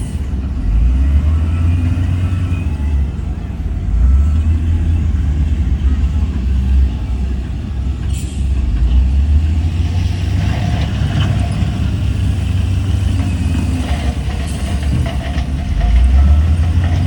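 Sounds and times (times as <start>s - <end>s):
heavy diesel machinery droning: 0.0s - 17.0s.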